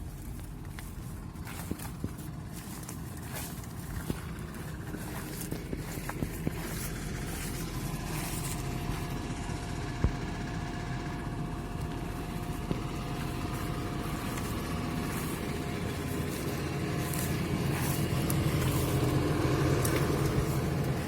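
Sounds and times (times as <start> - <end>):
faint steady whine: 0.0 - 21.0
machinery engine running: 0.0 - 21.0.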